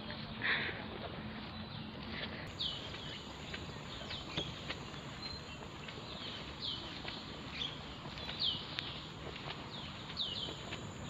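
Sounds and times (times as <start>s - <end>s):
footsteps on paved path: 0.0s - 11.0s
outdoor background noise: 0.0s - 11.0s
bird calling: 1.6s - 11.0s.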